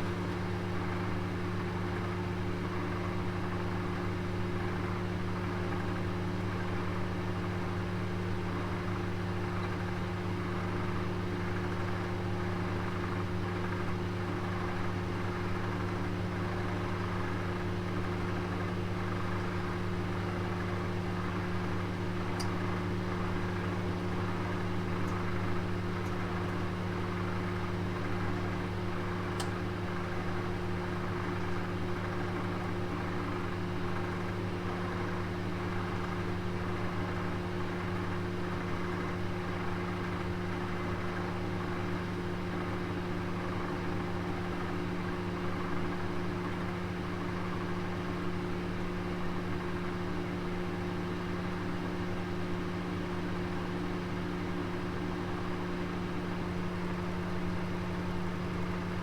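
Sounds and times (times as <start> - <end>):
oven fan humming: 0.0 - 59.0.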